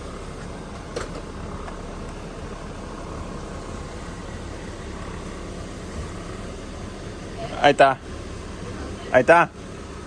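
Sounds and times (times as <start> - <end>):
truck engine and road rumble: 0.0 - 10.0.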